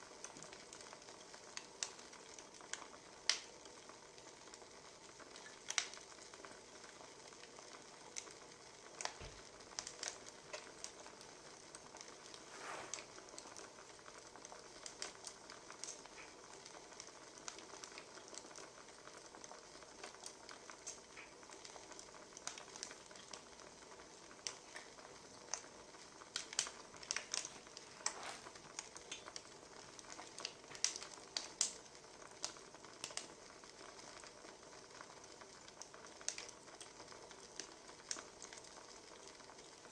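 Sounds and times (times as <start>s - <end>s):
wood fire popping and snapping: 0.0s - 39.9s
burning logs hissing: 0.1s - 39.8s.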